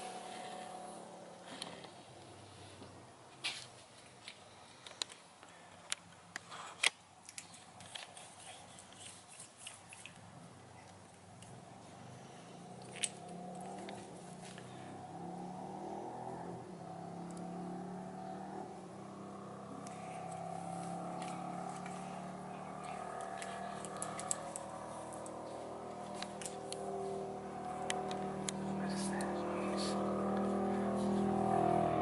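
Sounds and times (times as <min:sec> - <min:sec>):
engine-like hum: 0:00.0 - 0:06.4, 0:07.4 - 0:32.0.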